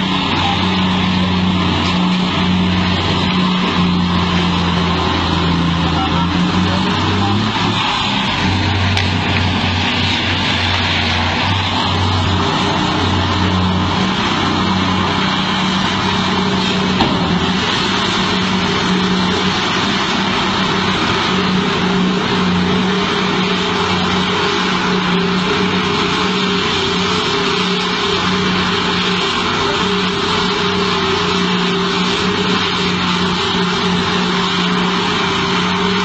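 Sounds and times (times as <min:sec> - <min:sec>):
heavy diesel engines droning: 0:00.0 - 0:36.0.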